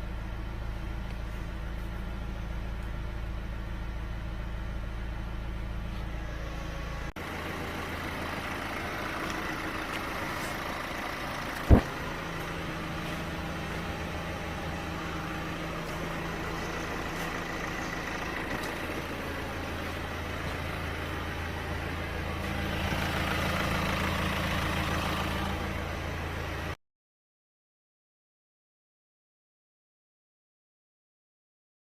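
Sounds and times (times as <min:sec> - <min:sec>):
diesel engine idling: 0:00.0 - 0:26.8.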